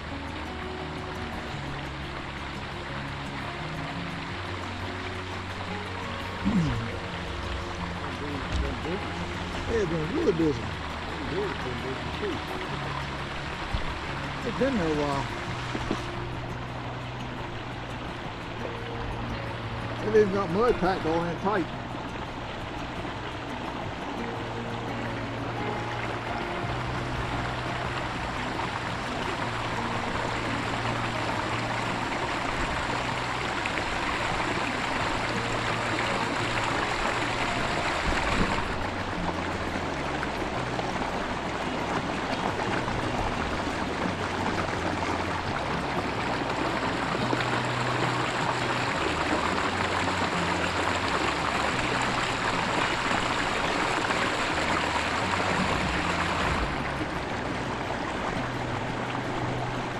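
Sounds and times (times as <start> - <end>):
water rushing over a dam: 0.0 - 59.9.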